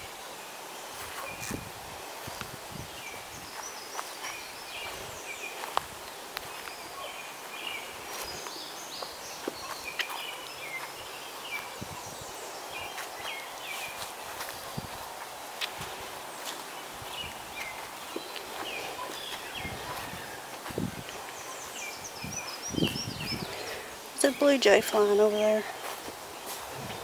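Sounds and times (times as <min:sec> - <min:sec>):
birds singing and chirping: 0:00.3 - 0:27.0
soft footsteps on grass: 0:00.6 - 0:27.0.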